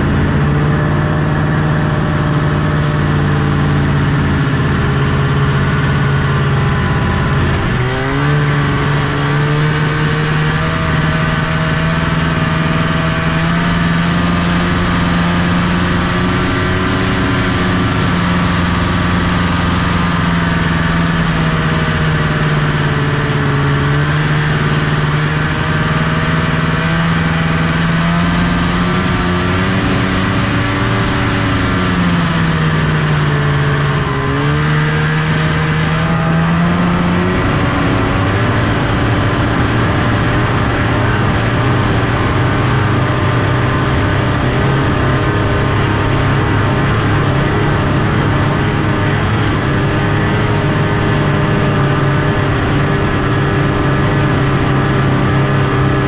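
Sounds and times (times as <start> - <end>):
snowmobile two-stroke engine running: 0.0 - 56.0.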